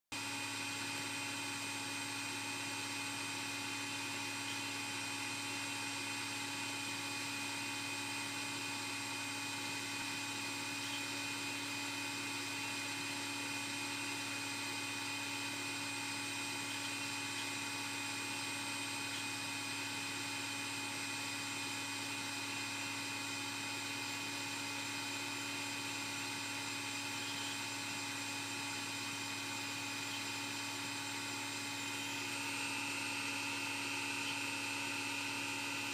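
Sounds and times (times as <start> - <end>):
electrical hum with high whine: 0.1 - 35.9.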